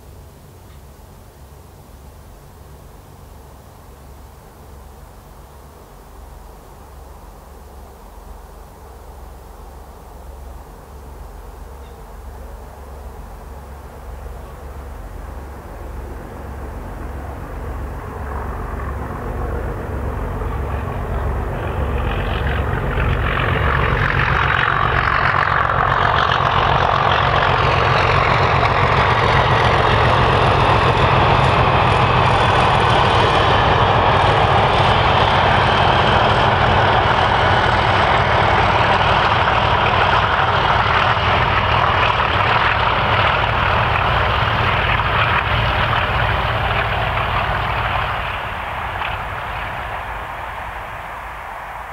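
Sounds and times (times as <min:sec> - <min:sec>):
diesel locomotives passing: 0:00.0 - 0:51.9.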